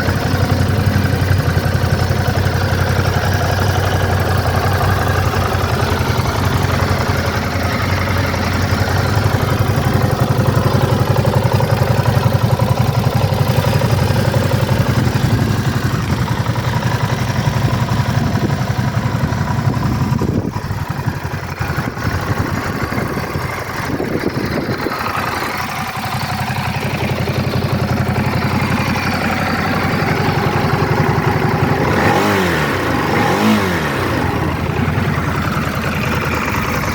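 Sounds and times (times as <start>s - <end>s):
engine throttle blips: 0.0s - 36.9s
motorcycle engine idling: 0.0s - 36.9s.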